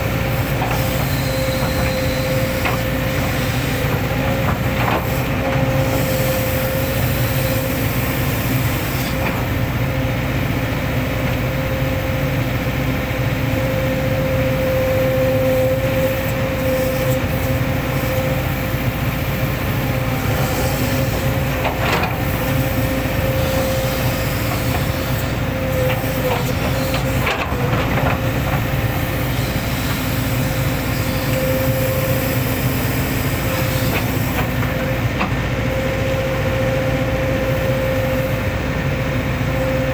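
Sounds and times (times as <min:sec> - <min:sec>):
excavator engine running: 0:00.0 - 0:39.9
high hydraulic whine: 0:00.0 - 0:39.9.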